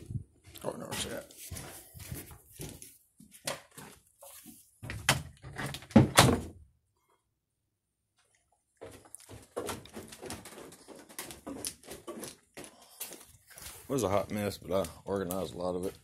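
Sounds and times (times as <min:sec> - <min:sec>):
footsteps: 0:00.0 - 0:05.0, 0:08.2 - 0:16.0.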